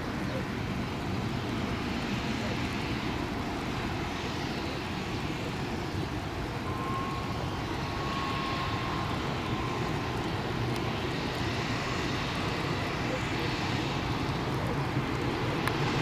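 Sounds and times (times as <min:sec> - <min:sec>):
turboprop engines running: 0:00.0 - 0:16.0.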